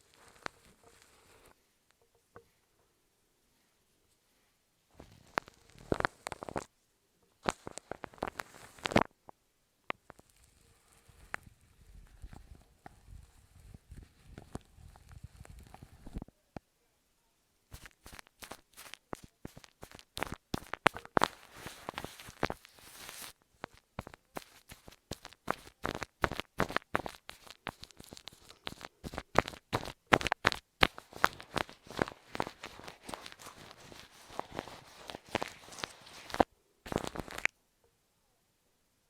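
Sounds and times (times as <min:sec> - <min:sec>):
sharp clicks and crackles: 0:00.0 - 0:02.1, 0:05.0 - 0:06.7, 0:07.4 - 0:16.3, 0:17.7 - 0:37.6.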